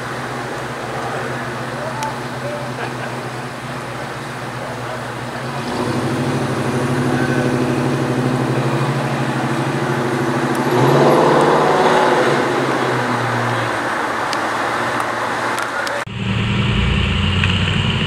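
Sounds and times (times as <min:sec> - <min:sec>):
car engine at low revs: 0:00.0 - 0:18.0.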